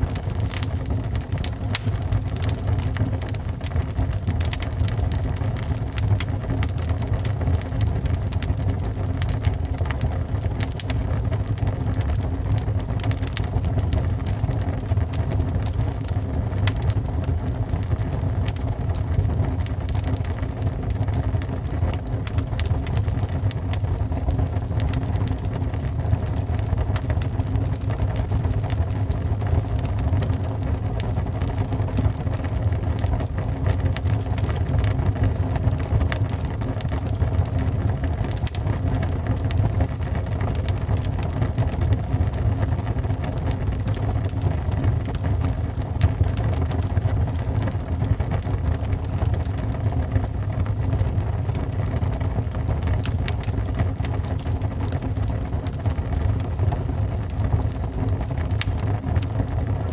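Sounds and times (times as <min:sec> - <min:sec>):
fire crackling and popping: 0:00.0 - 0:59.9
wood fire rumbling: 0:00.0 - 0:59.9.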